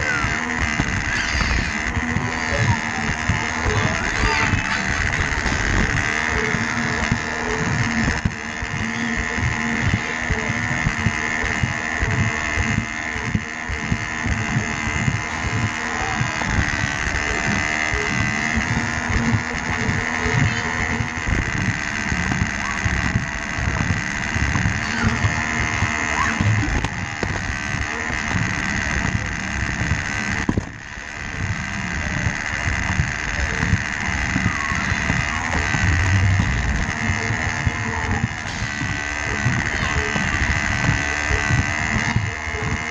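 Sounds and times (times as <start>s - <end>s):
toy train motor whine: 0.0s - 42.9s
wheels rattling on plastic track: 0.0s - 42.9s.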